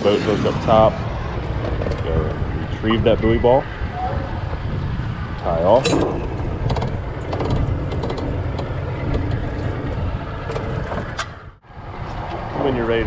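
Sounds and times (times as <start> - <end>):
wind on microphone: 0.0 - 13.0
boat motor rumbling: 0.4 - 11.6.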